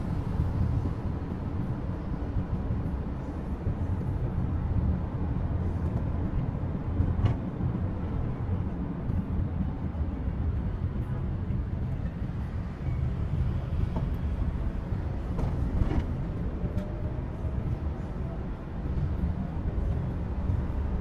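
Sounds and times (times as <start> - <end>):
van engine and road rumble: 0.0 - 21.0.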